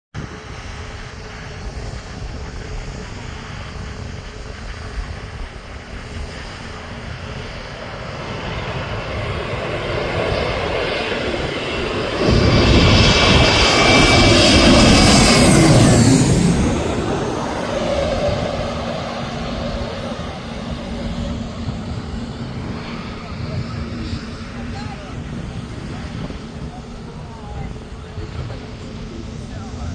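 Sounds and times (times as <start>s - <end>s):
aircraft engines rumbling: 0.2s - 29.9s
high engine whine: 0.2s - 29.9s.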